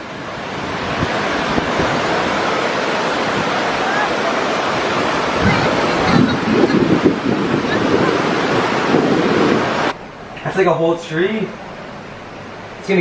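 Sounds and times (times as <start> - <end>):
river rushing: 0.0 - 13.0
wind buffeting microphone: 0.0 - 13.0.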